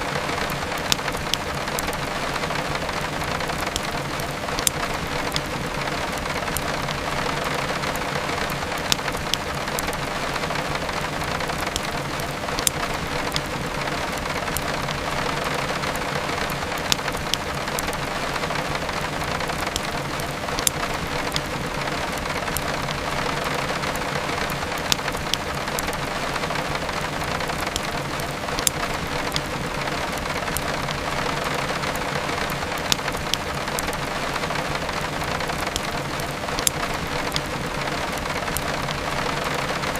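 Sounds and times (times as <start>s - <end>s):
heavy rain: 0.0s - 39.9s
wood fire popping and crackling: 0.0s - 39.9s.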